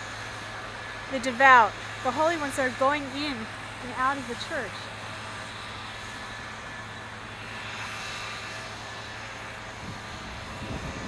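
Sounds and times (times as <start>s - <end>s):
city background rush: 0.0s - 11.0s.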